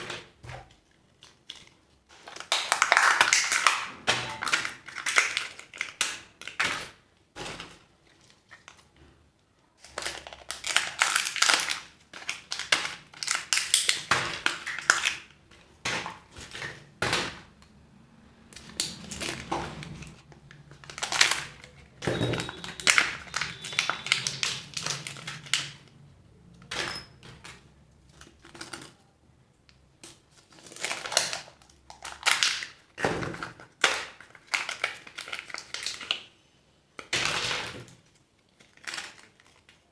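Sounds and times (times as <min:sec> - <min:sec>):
plastic wrappers crinkling: 0:00.2 - 0:09.0, 0:09.7 - 0:17.4, 0:18.5 - 0:26.1, 0:27.3 - 0:29.1, 0:30.0 - 0:36.4, 0:37.0 - 0:39.9.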